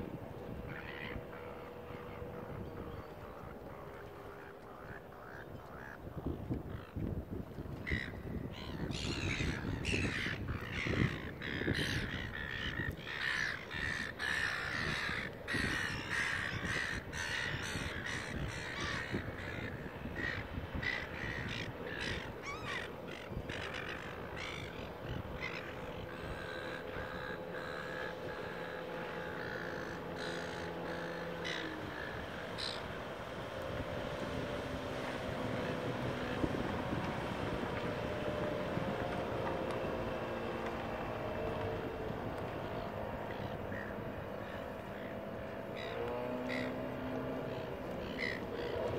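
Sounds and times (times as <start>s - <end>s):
boat motor droning: 0.0s - 48.9s
birds cawing: 0.6s - 7.0s, 7.8s - 48.9s.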